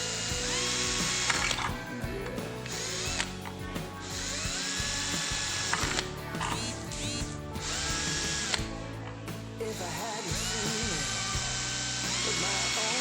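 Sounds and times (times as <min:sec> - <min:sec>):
electric drill motor whine: 0:00.0 - 0:02.0, 0:02.6 - 0:08.7, 0:09.6 - 0:13.0.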